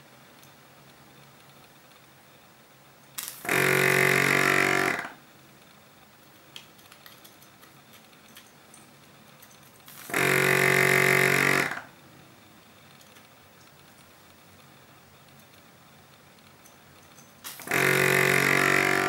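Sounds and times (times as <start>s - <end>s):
compressor buzzing hum and hiss: 0.0s - 19.0s.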